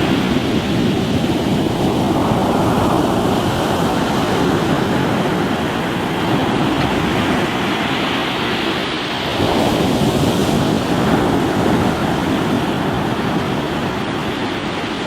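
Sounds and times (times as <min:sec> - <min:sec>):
ocean waves on rocky shore: 0:00.0 - 0:15.0
wind buffeting microphone: 0:00.0 - 0:15.0.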